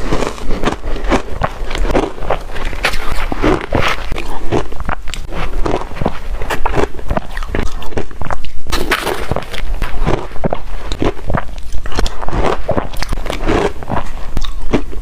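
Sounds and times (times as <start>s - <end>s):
crunchy chewing of ice: 0.0s - 15.0s.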